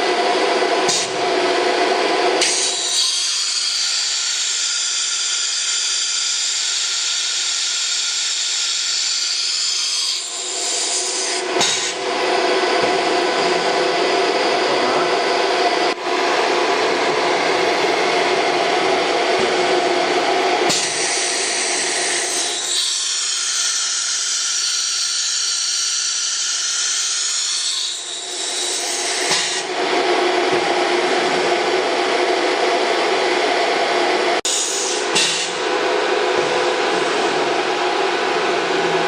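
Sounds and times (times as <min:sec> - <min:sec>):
router spindle whine: 0:00.0 - 0:39.0.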